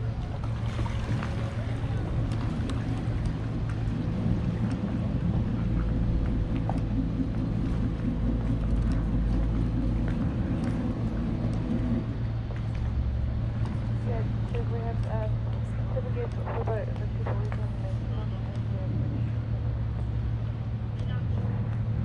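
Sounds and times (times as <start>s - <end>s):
diesel engines rumbling: 0.0s - 22.0s.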